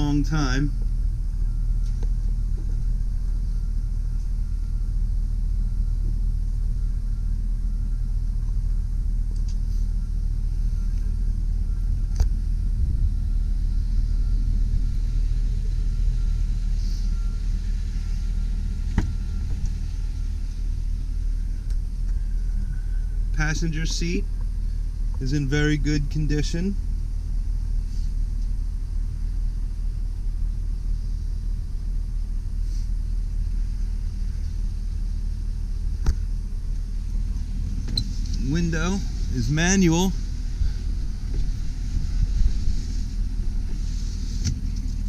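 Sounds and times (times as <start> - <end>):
truck engine idling: 0.0 - 45.0.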